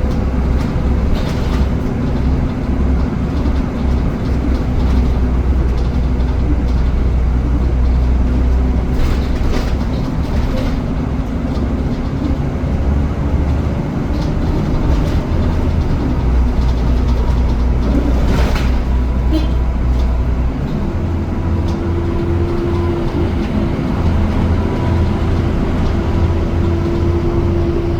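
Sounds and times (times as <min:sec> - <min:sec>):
bus low rumble: 0:00.0 - 0:27.9
light rattles and clicks: 0:00.0 - 0:27.9.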